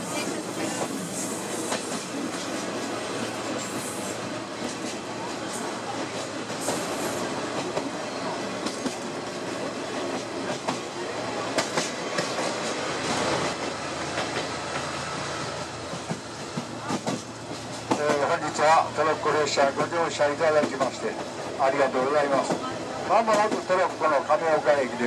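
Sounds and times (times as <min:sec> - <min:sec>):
train car rumbling on rails: 0:00.0 - 0:25.0.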